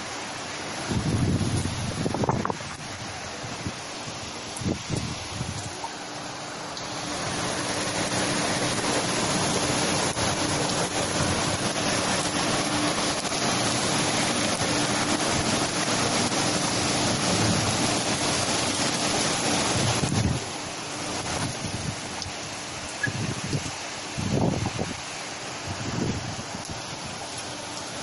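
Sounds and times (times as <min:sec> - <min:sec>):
storm wind rushing through trees: 0:00.0 - 0:28.0.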